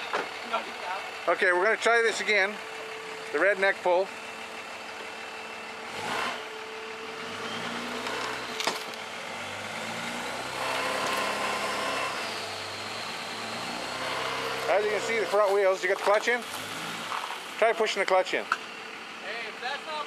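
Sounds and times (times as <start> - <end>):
truck engine revving under load: 0.0 - 18.0.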